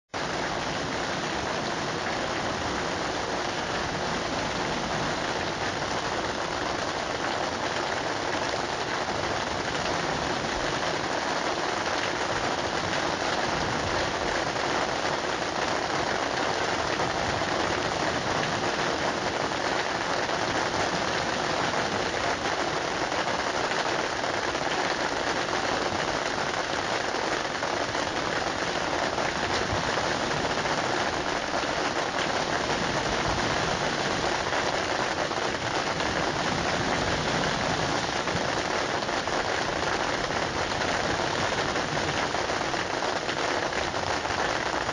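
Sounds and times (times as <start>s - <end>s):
steady rain falling: 0.1s - 44.9s.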